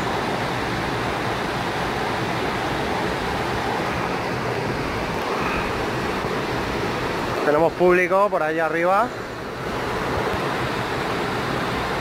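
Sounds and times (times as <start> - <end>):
waterfall roar: 0.0 - 12.0.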